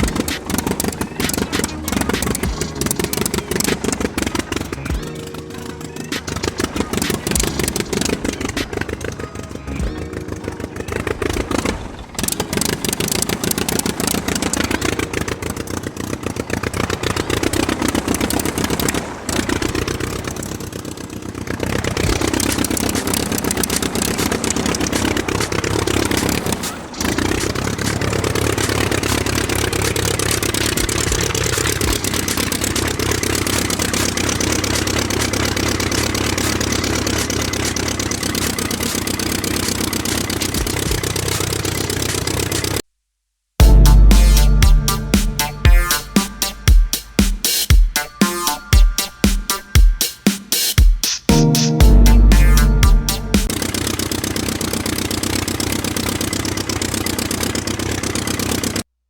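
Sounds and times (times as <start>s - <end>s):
small engine knocking: 0.0s - 42.8s, 53.4s - 58.8s.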